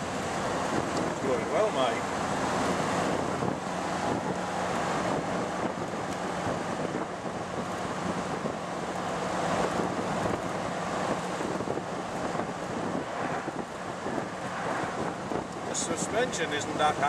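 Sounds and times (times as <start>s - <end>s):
car engine low hum: 0.0s - 17.0s
wind and road noise: 0.0s - 17.0s.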